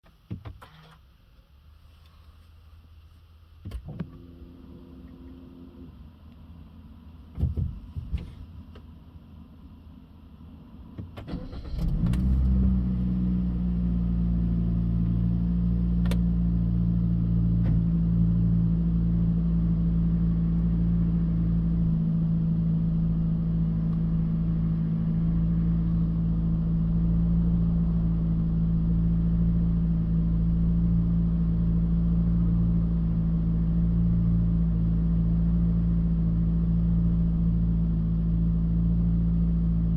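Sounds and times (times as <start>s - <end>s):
car engine starting and idling: 0.1s - 2.4s, 3.4s - 39.9s.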